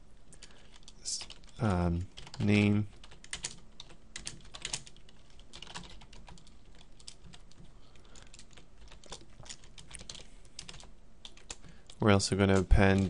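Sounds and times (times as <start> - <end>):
typing on computer keyboard: 0.4 - 13.0.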